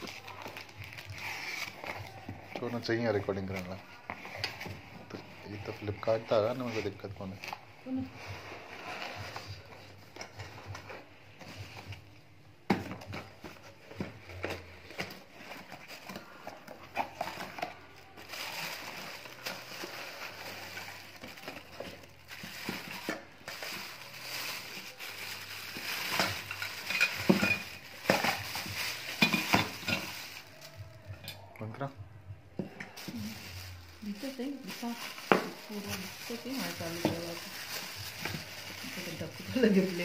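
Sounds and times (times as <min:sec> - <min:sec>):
cardboard and plastic crinkling: 0:00.0 - 0:31.2, 0:32.9 - 0:40.0.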